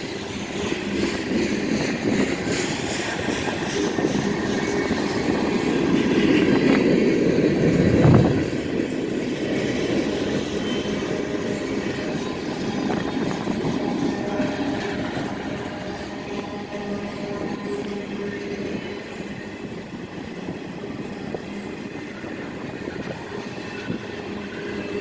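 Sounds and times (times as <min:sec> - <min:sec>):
freight train wheels clattering: 0:00.0 - 0:25.0.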